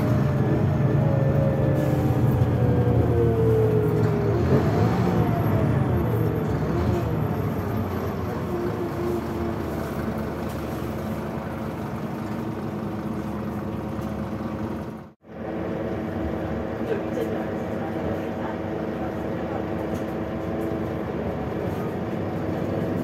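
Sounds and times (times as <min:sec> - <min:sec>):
bus diesel engine running: 0:00.0 - 0:23.0
road noise: 0:00.0 - 0:23.0.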